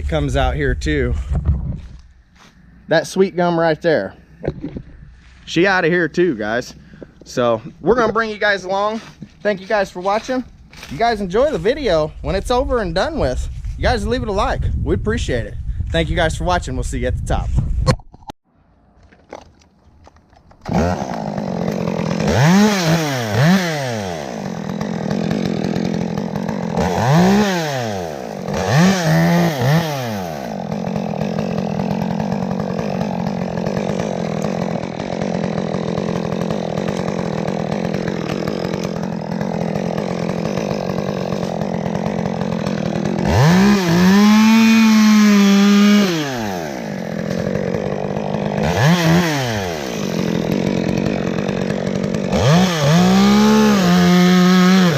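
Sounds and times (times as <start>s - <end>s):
chainsaw revving and idling: 1.8s - 13.3s, 20.5s - 54.9s.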